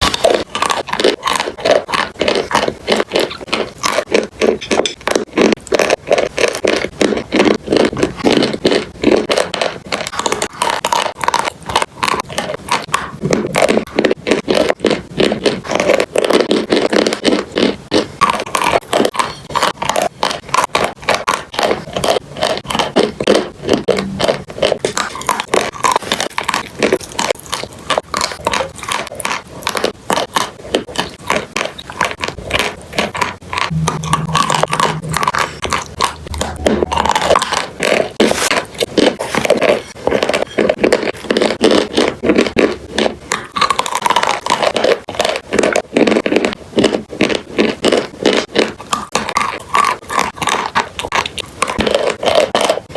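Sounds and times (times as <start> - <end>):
chalk and clay crunching: 0.0 - 50.0.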